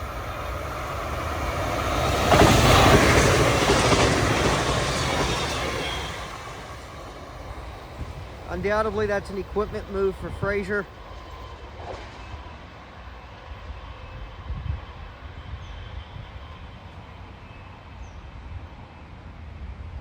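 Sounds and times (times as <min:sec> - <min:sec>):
distant electric train rumble: 0:00.0 - 0:20.0.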